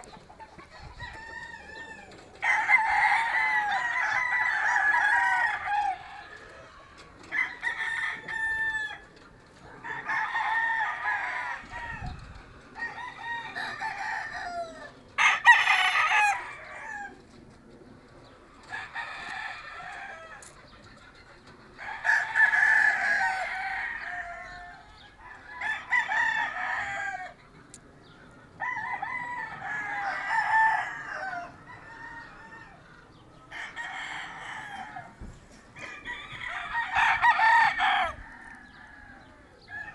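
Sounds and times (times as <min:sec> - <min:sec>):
roosters crowing: 0:00.0 - 0:39.9.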